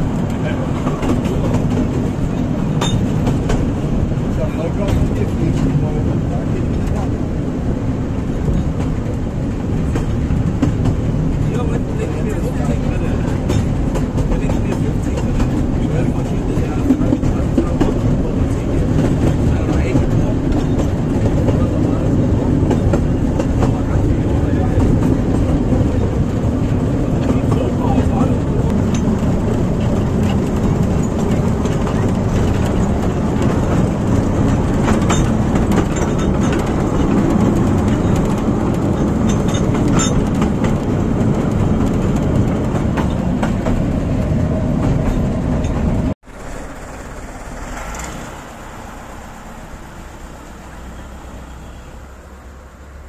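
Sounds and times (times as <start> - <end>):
sharp clicks from rails: 0.0 - 4.2, 8.2 - 48.8
diesel locomotive hum: 0.0 - 53.0
train wheels rumbling and rattling: 0.0 - 53.0.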